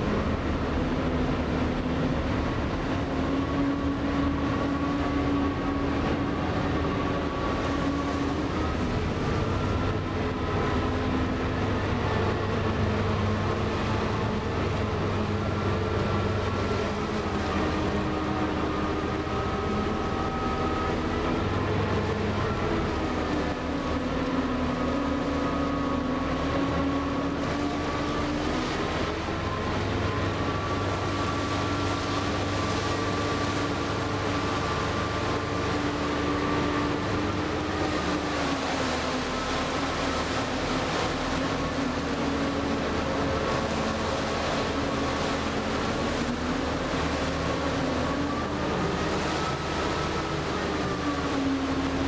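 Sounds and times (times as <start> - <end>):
boat engines droning: 0.0 - 52.0.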